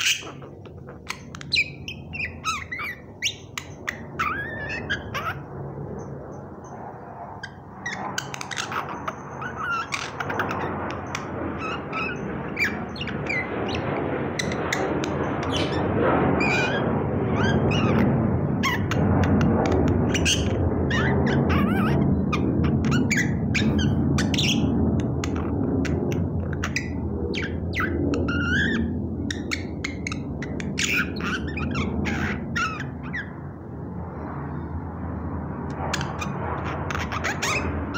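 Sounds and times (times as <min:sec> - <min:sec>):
steady low noise: 0:00.0 - 0:37.9.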